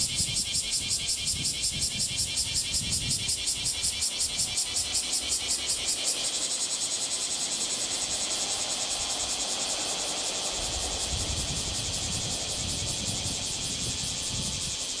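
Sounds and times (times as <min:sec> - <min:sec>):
cicadas calling in chorus: 0:00.0 - 0:15.0.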